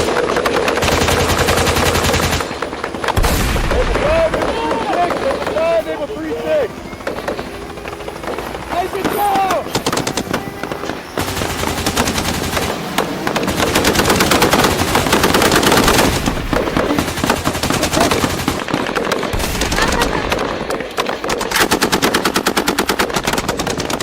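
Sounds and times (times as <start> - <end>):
toy blasters firing rapidly: 0.0 - 24.0.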